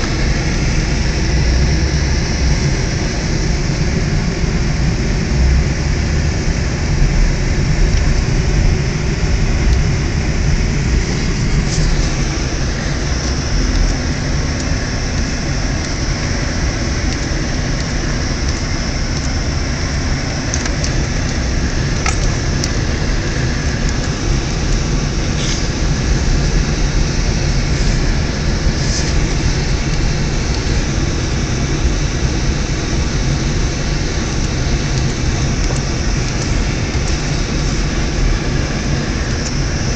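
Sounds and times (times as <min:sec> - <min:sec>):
car engine from inside cabin: 0:00.0 - 0:39.9
tyres on snowy road: 0:00.0 - 0:39.9.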